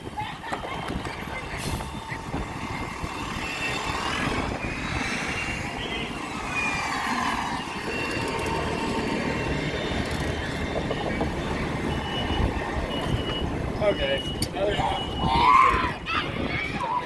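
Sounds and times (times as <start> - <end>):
traffic noise: 0.0 - 17.0
wind rushing over microphone: 0.0 - 17.0.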